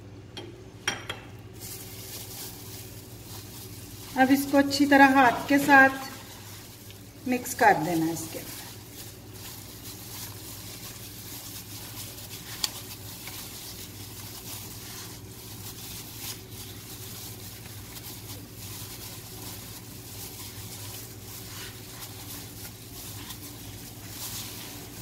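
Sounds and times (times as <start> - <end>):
plastic glove crinkling: 1.4 - 25.0
wet squishing of kneaded meat: 1.5 - 25.0.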